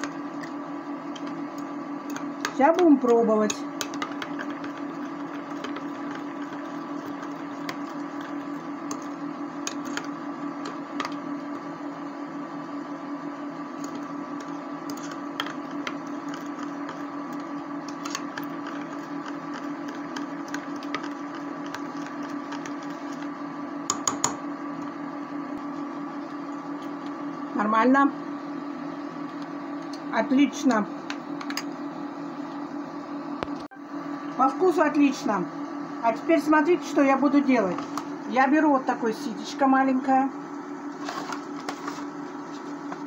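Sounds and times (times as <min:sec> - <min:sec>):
electric cooktop hum: 0:00.0 - 0:43.0.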